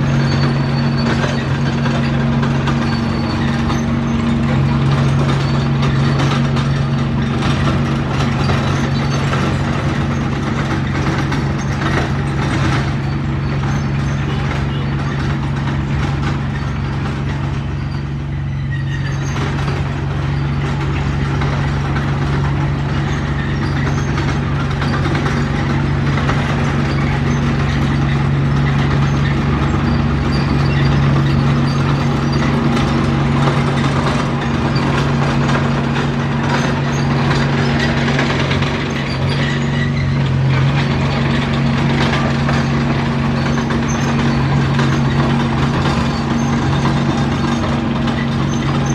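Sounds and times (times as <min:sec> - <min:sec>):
bulldozer diesel engine: 0:00.0 - 0:48.9
mechanical clatter: 0:00.0 - 0:48.9.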